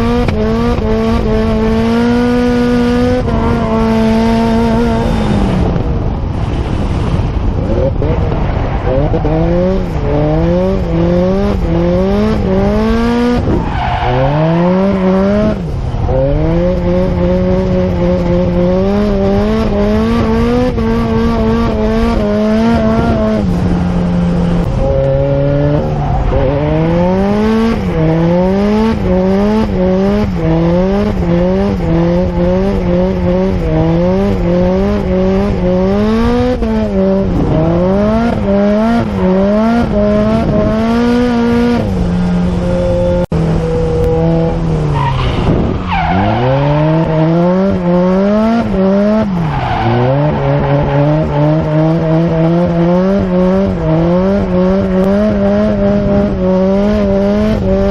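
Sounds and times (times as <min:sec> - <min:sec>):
car engine revving hard: 0:00.0 - 0:57.9.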